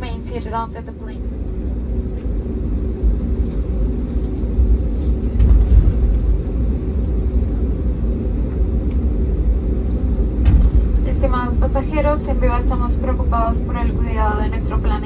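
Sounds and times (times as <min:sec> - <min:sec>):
aircraft engine rumble: 0:00.0 - 0:15.0
steady cabin hum: 0:00.0 - 0:15.0.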